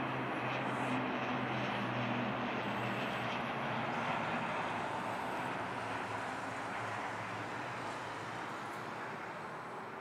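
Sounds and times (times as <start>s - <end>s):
turboprop engines droning: 0.0s - 10.0s.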